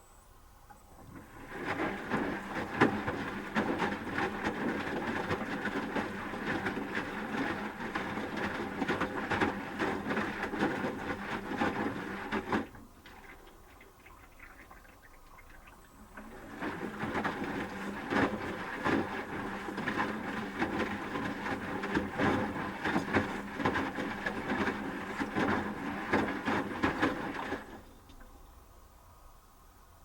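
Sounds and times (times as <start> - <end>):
washing machine drum tumbling laundry: 1.0 - 28.4.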